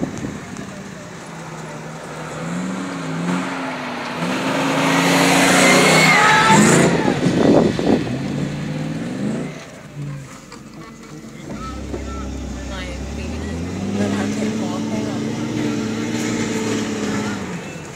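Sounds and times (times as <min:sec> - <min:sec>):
engine revving: 0:00.0 - 0:17.9
tyres and wind rushing: 0:00.0 - 0:17.9.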